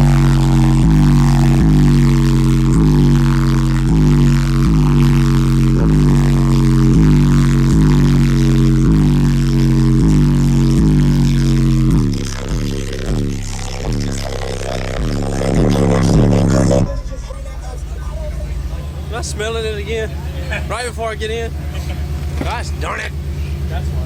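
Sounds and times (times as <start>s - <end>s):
subwoofer playing deep bass: 0.0s - 24.0s.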